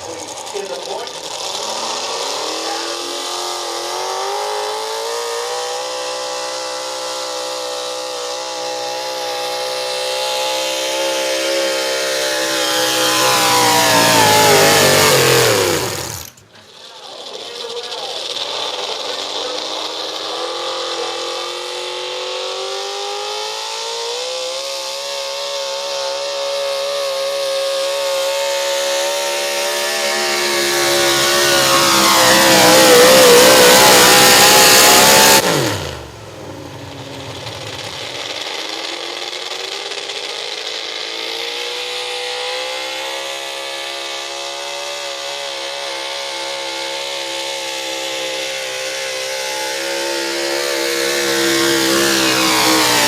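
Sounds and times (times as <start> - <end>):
pulling truck engine revving: 0.0 - 53.0.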